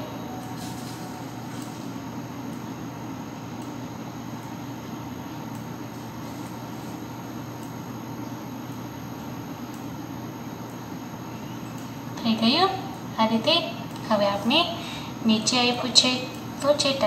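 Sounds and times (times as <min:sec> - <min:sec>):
low background hum and hiss: 0:00.0 - 0:17.0.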